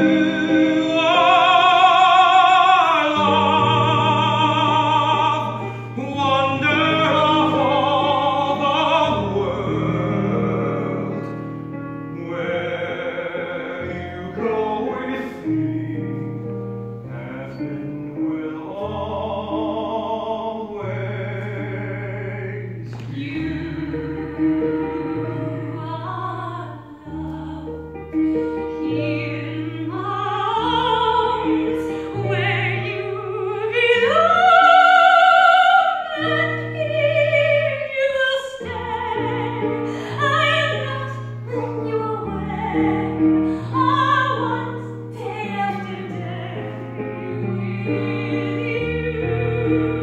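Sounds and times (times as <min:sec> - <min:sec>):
person singing ballad with vibrato: 0:00.0 - 0:50.0
piano accompaniment: 0:00.0 - 0:50.0.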